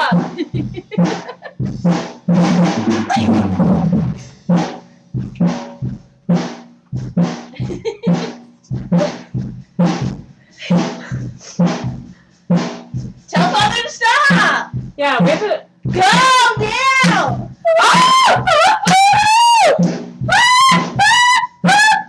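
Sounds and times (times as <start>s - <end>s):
drum kit playing: 0.0s - 22.0s.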